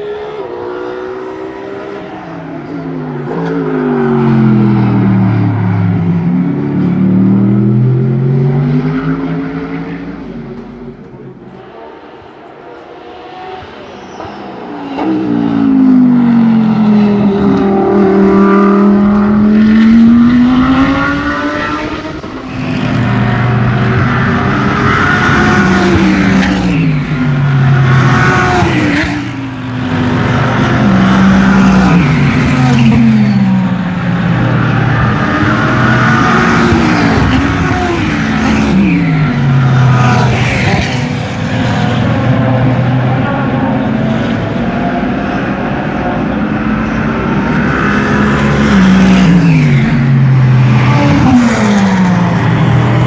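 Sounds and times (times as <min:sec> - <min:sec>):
race car accelerating with upshifts: 0:00.0 - 0:53.0.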